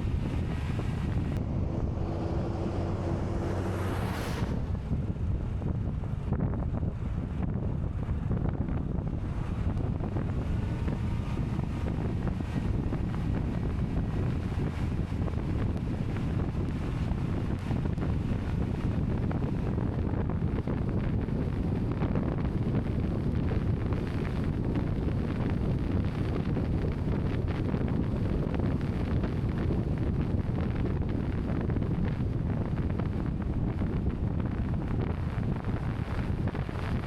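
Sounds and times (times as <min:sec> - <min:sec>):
wind rumbling on microphone: 0:00.0 - 0:37.0.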